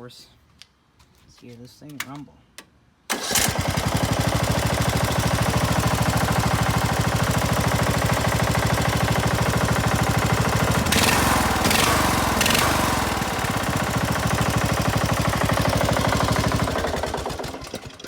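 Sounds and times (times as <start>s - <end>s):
lawn mower engine rumbling: 3.1s - 18.0s
lawn mower engine starting: 3.1s - 18.0s.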